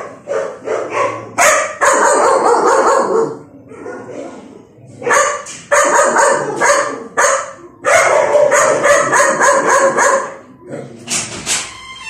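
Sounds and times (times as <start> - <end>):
dog barking: 0.0 - 4.4, 5.0 - 10.5.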